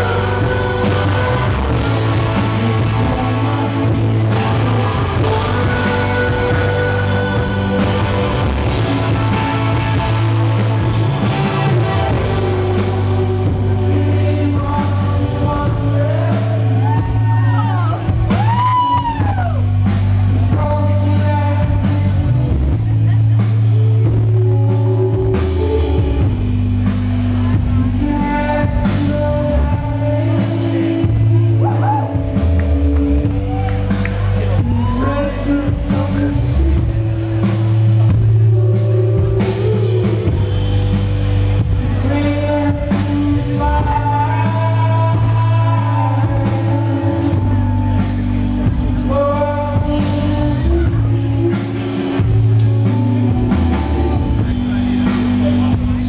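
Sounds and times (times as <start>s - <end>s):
electric guitar: 0.0s - 56.0s
live rock band playing: 0.0s - 56.0s
person singing: 0.0s - 56.0s.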